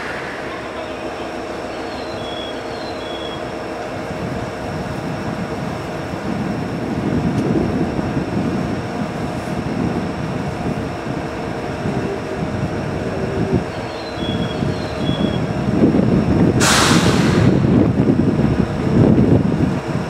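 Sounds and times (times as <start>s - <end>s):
train mechanical rumble: 0.0s - 20.0s.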